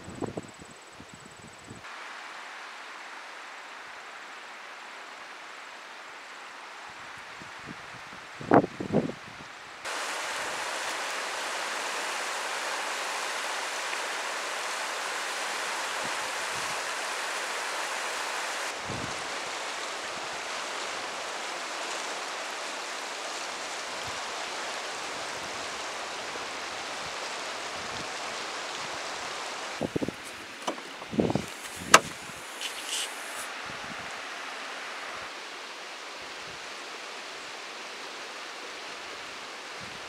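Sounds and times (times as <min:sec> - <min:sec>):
river water rushing over gravel: 0:01.9 - 0:09.0, 0:09.8 - 0:40.0.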